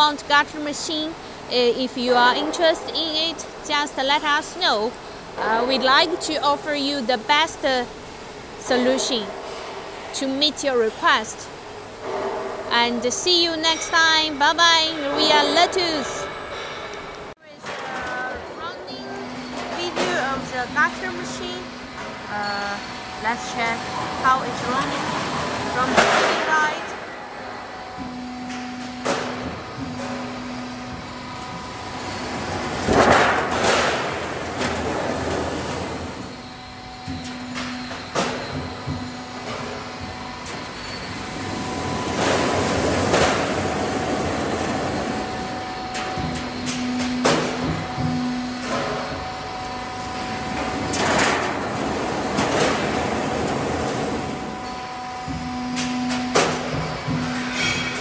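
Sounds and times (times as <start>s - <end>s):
roll forming machine humming: 0.0s - 58.0s.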